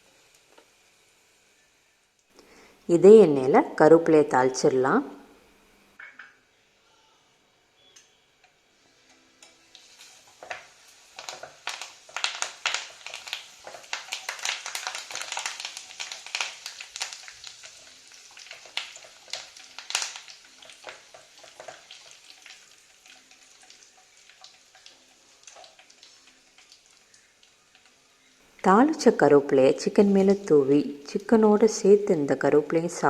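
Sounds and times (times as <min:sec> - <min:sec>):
curry leaves crackling in hot oil: 0:00.0 - 0:02.7, 0:07.8 - 0:33.0.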